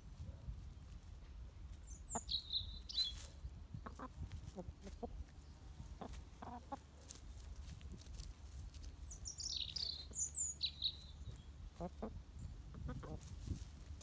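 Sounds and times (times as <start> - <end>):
chickens clucking softly: 0.0 - 14.0.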